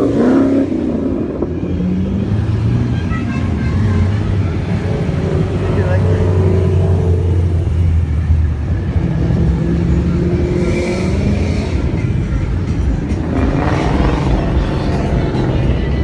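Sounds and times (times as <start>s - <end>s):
car engine revving: 0.0s - 16.0s
car engines running: 0.0s - 16.0s.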